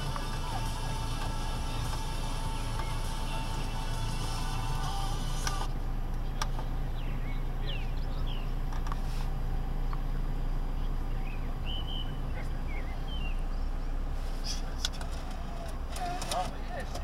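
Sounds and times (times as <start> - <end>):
birds chirping: 0.0 - 9.0, 9.6 - 17.0
car engine idling: 0.0 - 17.0.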